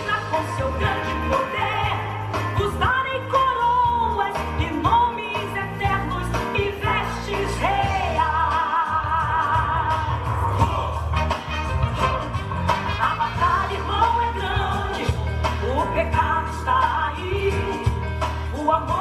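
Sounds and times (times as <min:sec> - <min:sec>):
song with band: 0:00.0 - 0:19.0.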